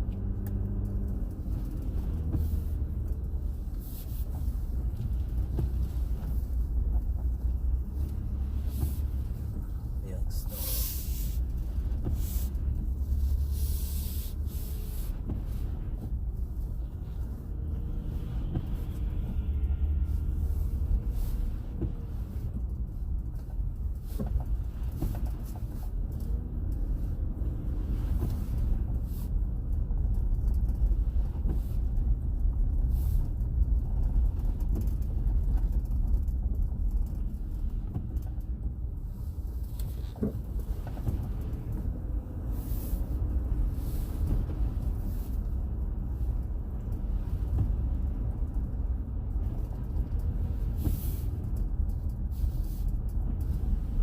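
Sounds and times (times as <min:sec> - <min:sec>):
vehicle driving rumble: 0:00.0 - 0:54.0.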